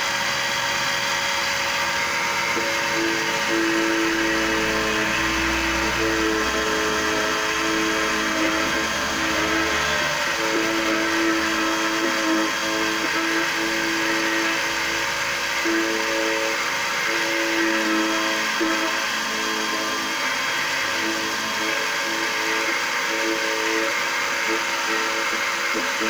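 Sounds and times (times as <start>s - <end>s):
grinding hiss: 0.0s - 26.0s
key-cutting machine whine: 0.0s - 26.0s.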